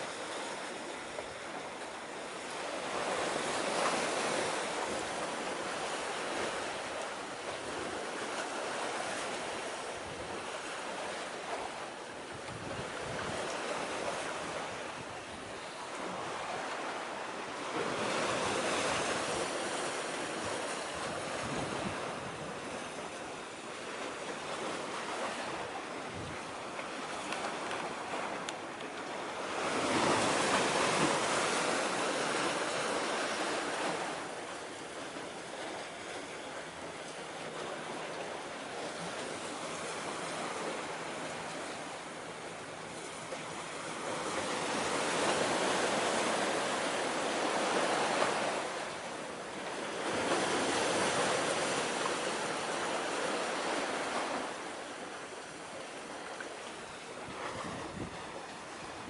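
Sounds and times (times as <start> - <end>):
sea waves washing against shore: 0.0 - 59.0
wind: 0.0 - 59.0.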